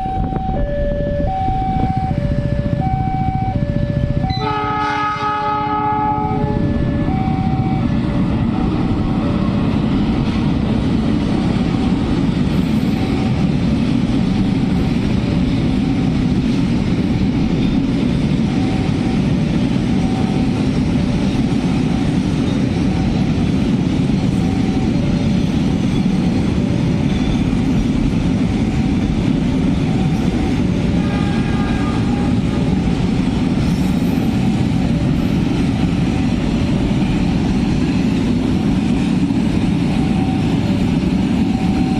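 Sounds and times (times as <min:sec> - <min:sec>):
train rumbling past: 0:00.0 - 0:41.9.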